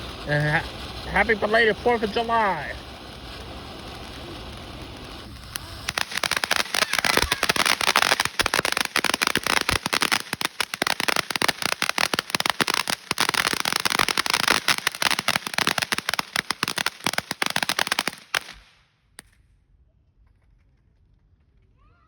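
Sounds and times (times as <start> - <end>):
firework crackling pops: 0.0 - 19.5.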